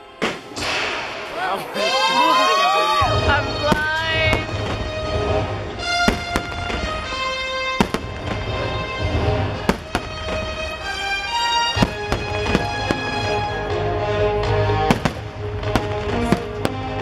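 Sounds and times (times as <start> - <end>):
fireworks bangs: 0.0 - 13.8, 14.4 - 17.0
loud show music: 2.9 - 17.0.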